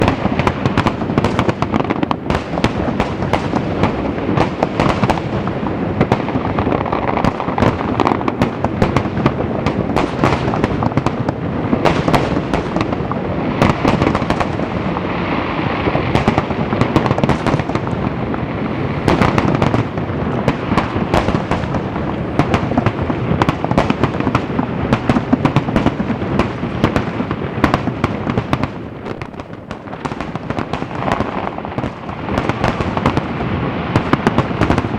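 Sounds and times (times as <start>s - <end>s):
fireworks booming and crackling: 0.0s - 34.9s.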